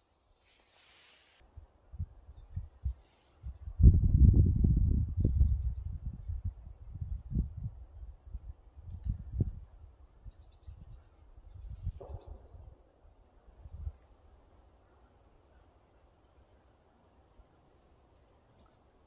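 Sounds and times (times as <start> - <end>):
high bird chirps and trills: 1.5 - 19.0.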